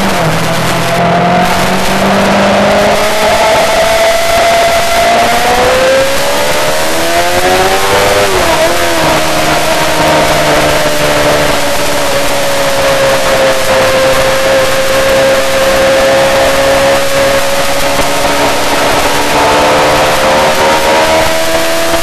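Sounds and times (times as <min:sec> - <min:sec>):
motorcycle engine at high revs: 0:00.0 - 0:22.0
wind noise: 0:00.0 - 0:22.0.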